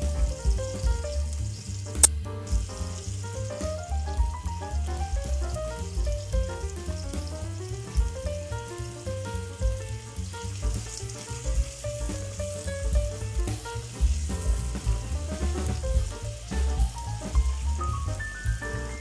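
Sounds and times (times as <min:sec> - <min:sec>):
music with bass beat: 0:00.0 - 0:19.0
vegetables sizzling in oil: 0:00.0 - 0:19.0.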